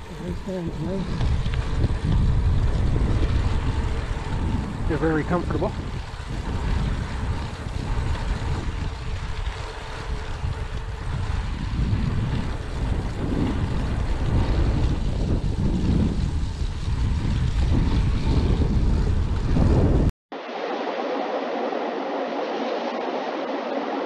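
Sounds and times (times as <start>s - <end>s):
wind buffeting microphone: 0.0s - 20.1s
bicycle road noise: 0.0s - 24.0s.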